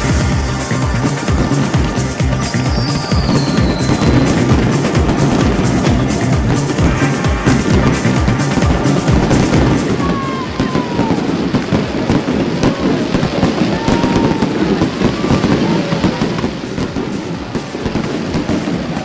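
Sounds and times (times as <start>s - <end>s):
fireworks bangs and crackling: 0.0s - 19.0s
whistling fireworks: 0.0s - 19.0s.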